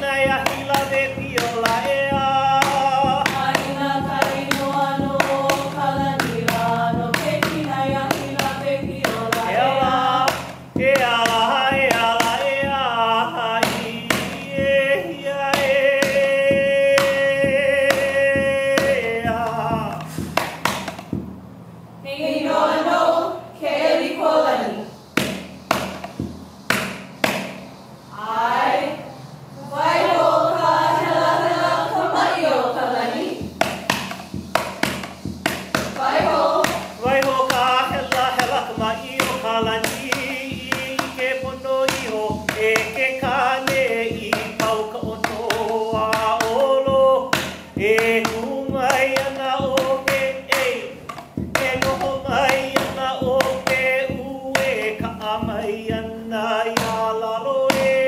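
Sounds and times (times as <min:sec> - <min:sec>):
person chanting: 0:00.0 - 0:20.1, 0:28.1 - 0:33.5, 0:35.9 - 0:51.0, 0:51.6 - 0:58.0
sharp percussion strikes: 0:00.0 - 0:21.5, 0:24.9 - 0:28.2, 0:33.4 - 0:56.1.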